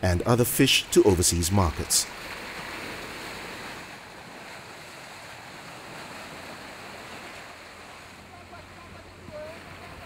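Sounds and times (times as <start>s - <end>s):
water rushing along a hull: 0.0s - 10.0s
wind: 0.0s - 10.0s.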